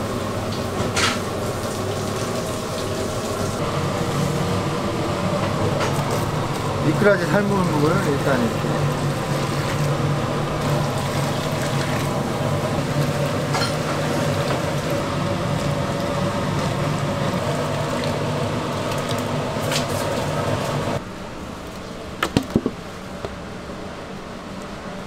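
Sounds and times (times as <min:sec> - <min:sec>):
steady low hum: 0:03.2 - 0:25.0.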